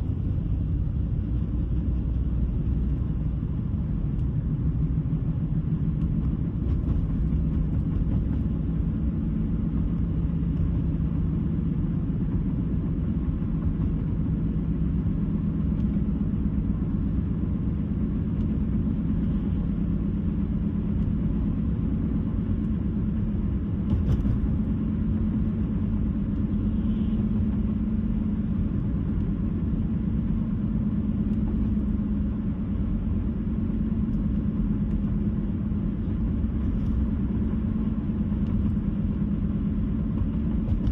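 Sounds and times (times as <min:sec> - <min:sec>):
car tyres and engine drone: 0:00.0 - 0:40.9.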